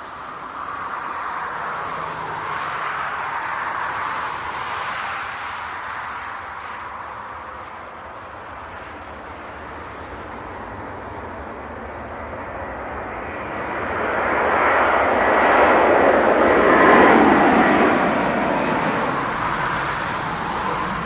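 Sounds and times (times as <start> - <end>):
jet engine rush: 0.0 - 21.0
thin whine: 0.0 - 21.0.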